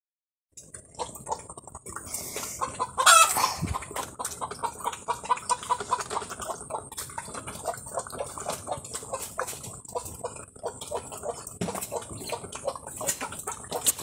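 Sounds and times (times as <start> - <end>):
chickens clucking: 0.6 - 14.0.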